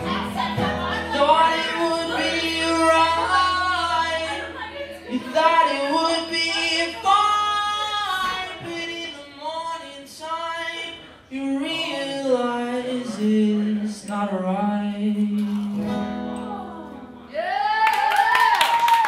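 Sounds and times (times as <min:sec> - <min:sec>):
man singing into microphone: 0:00.0 - 0:16.2.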